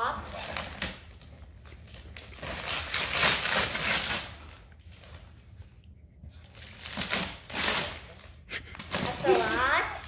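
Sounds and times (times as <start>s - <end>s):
wrapping paper ripping and rustling: 0.2s - 5.5s, 6.4s - 10.0s.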